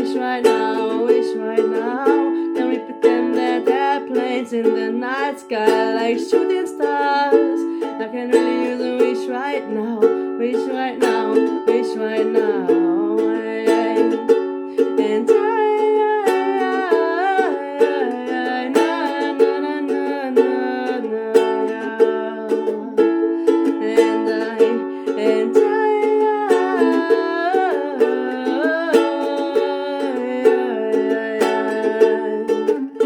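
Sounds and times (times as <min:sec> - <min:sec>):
ukulele strumming: 0:00.0 - 0:33.0.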